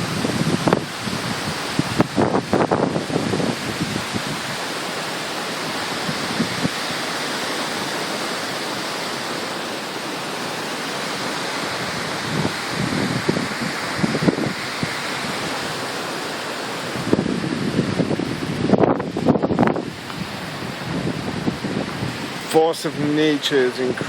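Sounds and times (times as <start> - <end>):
wind buffeting microphone: 0.0 - 23.1
wind and heavy rain: 0.0 - 24.0.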